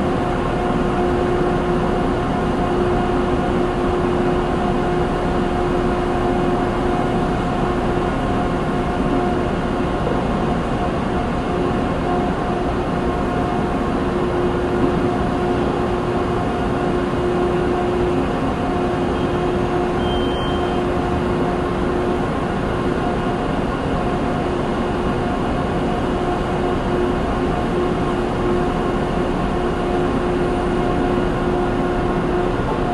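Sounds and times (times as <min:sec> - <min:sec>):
constant machine hum: 0:00.0 - 0:32.9
factory machinery din: 0:00.0 - 0:32.9.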